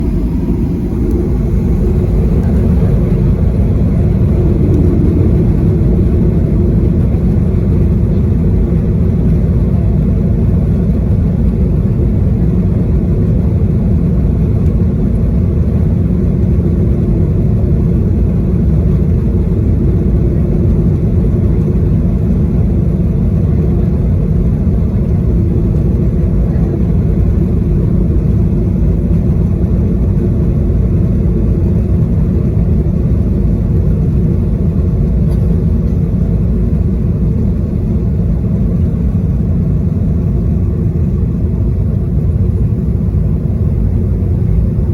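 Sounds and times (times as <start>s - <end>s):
jet engine cabin rumble: 0.0s - 44.9s
steady hum: 0.0s - 44.9s.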